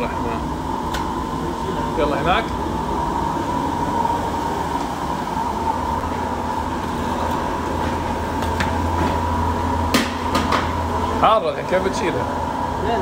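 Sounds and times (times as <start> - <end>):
high whine: 0.0 - 13.0
machinery rumble and hum: 0.0 - 13.0.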